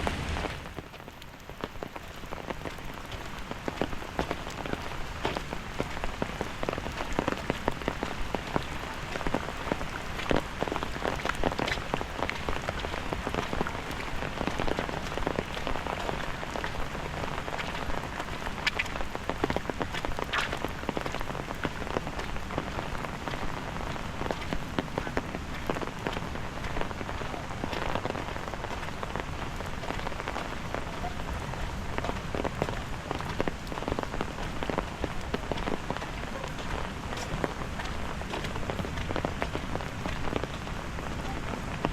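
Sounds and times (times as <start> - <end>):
rain on hard surfaces: 0.0 - 41.9.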